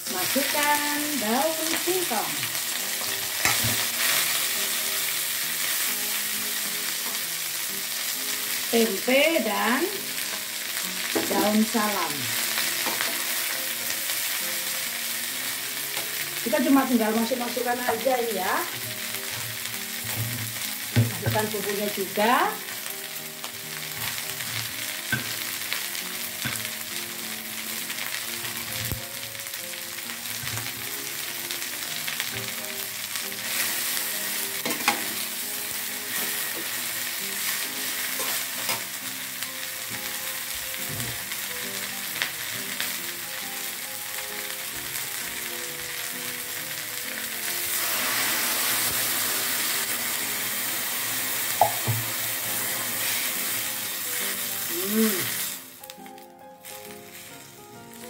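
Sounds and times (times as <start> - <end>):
food sizzling in wok: 0.0 - 58.0.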